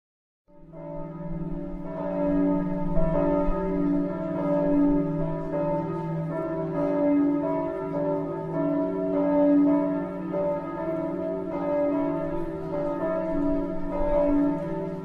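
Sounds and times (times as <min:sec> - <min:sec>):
church bells ringing: 0:00.6 - 0:15.0.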